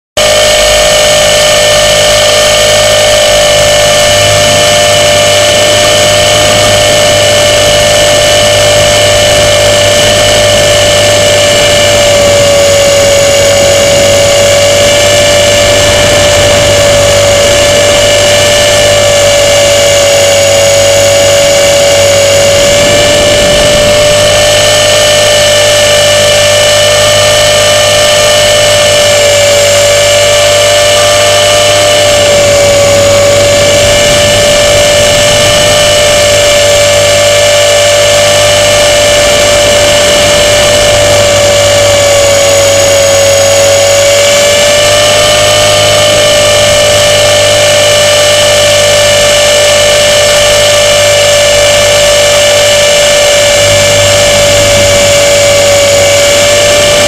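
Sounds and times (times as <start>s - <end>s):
model airplane motor whine: 0.0s - 57.0s.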